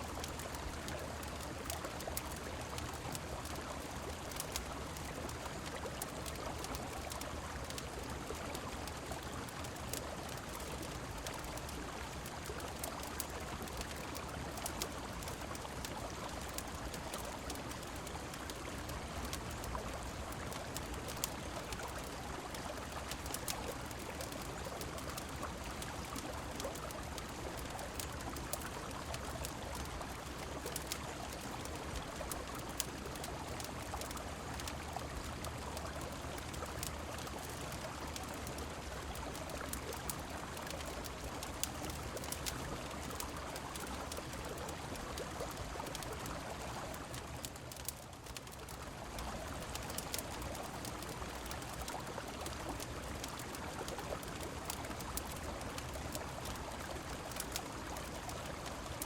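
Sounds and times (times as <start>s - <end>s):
rain falling: 0.0s - 59.0s
wood fire crackling: 0.1s - 59.0s.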